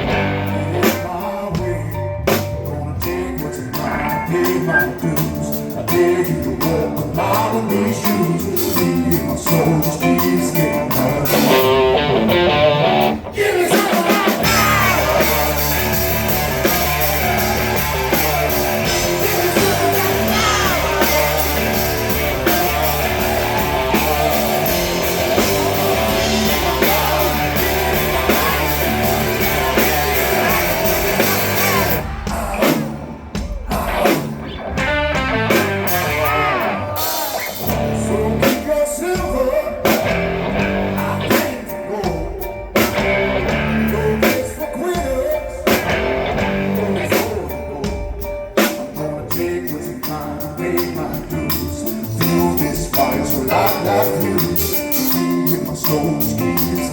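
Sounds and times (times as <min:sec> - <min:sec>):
bass guitar: 0:00.0 - 0:56.9
drums: 0:00.0 - 0:56.9
electric guitar: 0:00.0 - 0:56.9
lead vocals: 0:00.0 - 0:56.9
live rock band: 0:00.0 - 0:56.9.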